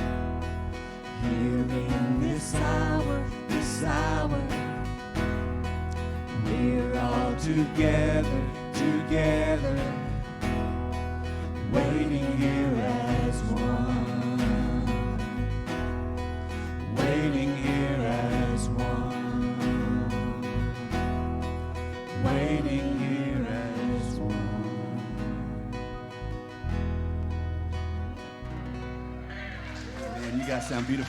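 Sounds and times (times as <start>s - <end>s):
worship band with acoustic guitar: 0.0s - 31.0s.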